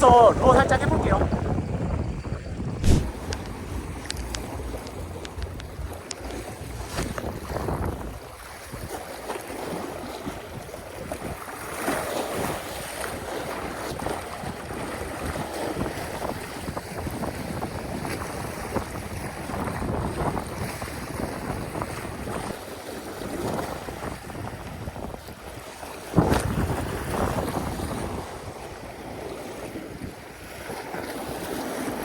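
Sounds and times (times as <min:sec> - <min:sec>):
wind gusting on microphone: 0:00.0 - 0:09.0, 0:12.4 - 0:32.0
sea waves washing on shore: 0:02.8 - 0:32.0.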